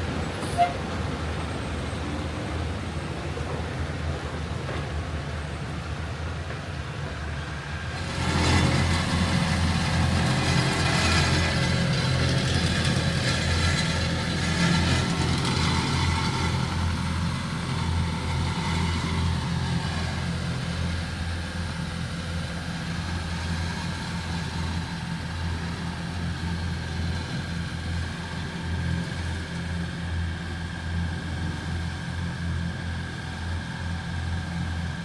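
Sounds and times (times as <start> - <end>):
vehicle engine humming: 0.0 - 35.0.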